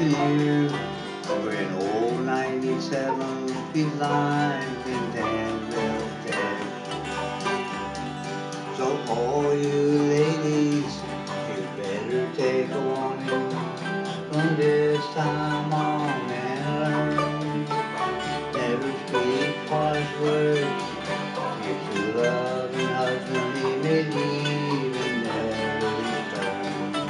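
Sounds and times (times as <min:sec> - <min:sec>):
acoustic guitars strumming: 0:00.0 - 0:27.0
person singing: 0:00.0 - 0:27.0.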